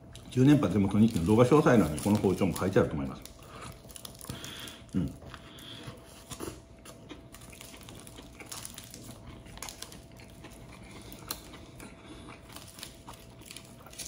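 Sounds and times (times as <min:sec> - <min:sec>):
person chewing crusty bread: 0:00.0 - 0:14.0.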